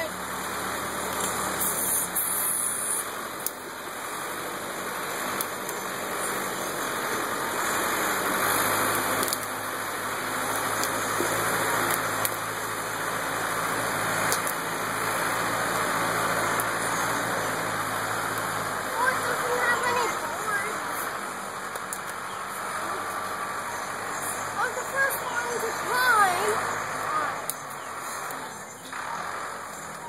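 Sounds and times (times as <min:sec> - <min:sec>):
backhoe engine idling: 0:00.0 - 0:30.0
creek water rushing: 0:00.0 - 0:30.0.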